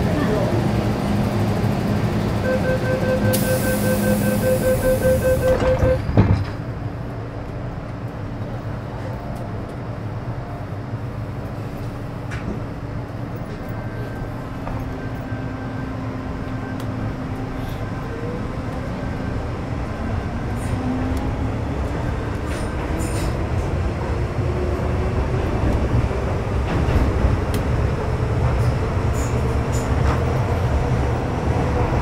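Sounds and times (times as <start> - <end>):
low train running rumble: 0.0 - 32.0.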